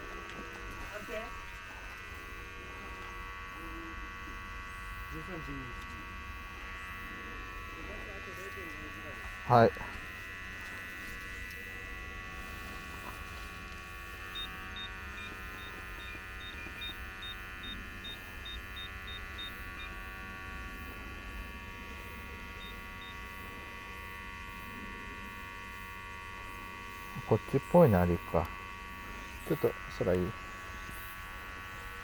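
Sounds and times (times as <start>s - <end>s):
electric buzz of leak detector: 0.0s - 32.0s.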